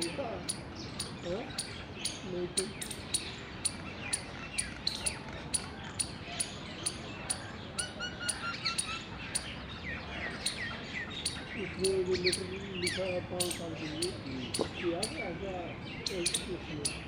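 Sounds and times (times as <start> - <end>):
squirrel calling with high chips: 0.0 - 9.6, 10.4 - 15.4, 16.0 - 17.0
birds chirping: 0.0 - 17.0.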